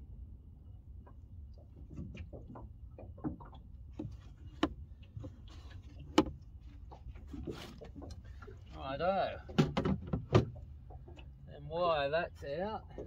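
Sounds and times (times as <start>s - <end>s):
low steady rumble: 0.0s - 13.0s
knocks and clicks on a boat: 1.0s - 11.5s, 12.7s - 13.0s.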